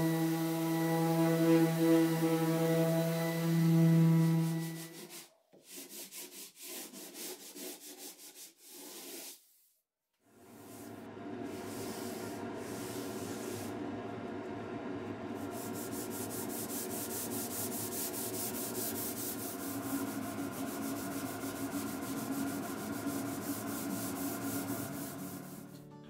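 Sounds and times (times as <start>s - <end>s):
sandpaper rubbing wood: 0.1s - 9.5s, 11.5s - 13.7s, 15.4s - 25.7s.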